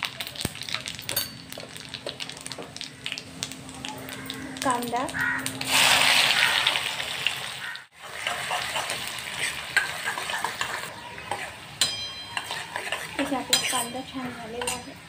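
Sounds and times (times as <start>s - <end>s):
onion frying in hot oil: 0.0s - 15.0s.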